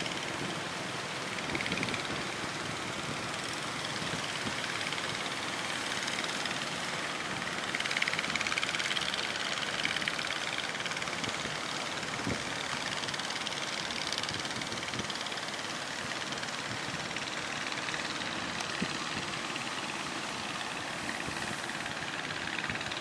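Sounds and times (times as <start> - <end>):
boat engines running: 0.0 - 23.0.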